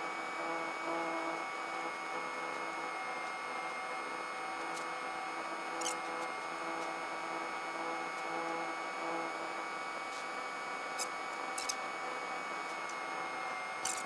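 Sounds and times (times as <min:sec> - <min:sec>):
electrical hum and hiss: 0:00.0 - 0:14.0.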